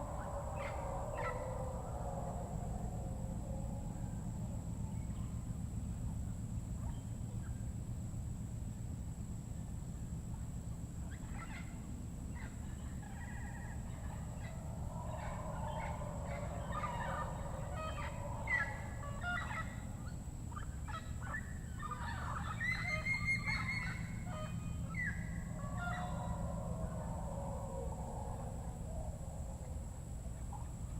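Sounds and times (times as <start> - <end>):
low hum: 0.0 - 22.4, 23.1 - 30.9.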